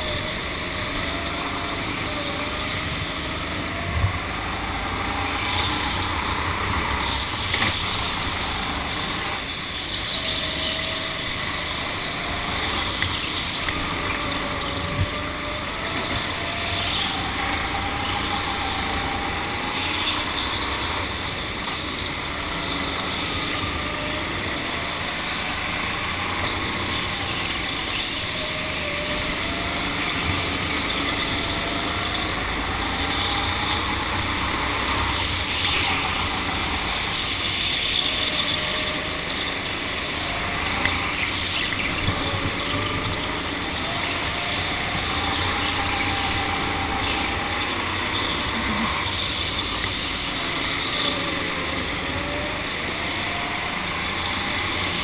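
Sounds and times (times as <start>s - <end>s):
go-kart motor revving: 0.0s - 55.0s.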